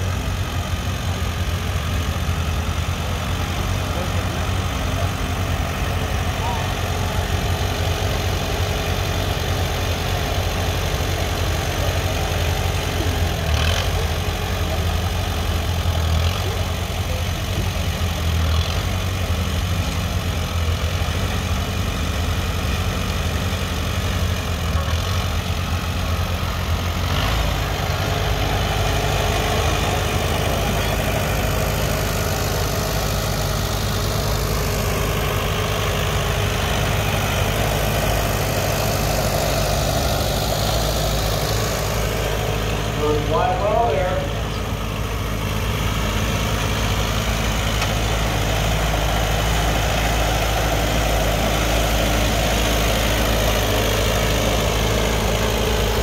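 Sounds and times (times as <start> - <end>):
tractor engine running at low speed: 0.0 - 56.0.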